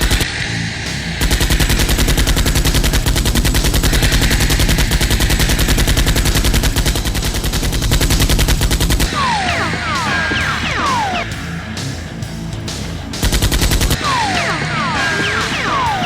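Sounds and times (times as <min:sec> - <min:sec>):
machine-gun burst: 0:01.2 - 0:11.3, 0:13.2 - 0:16.0
sharp gunshot: 0:01.2 - 0:11.4, 0:13.2 - 0:16.0.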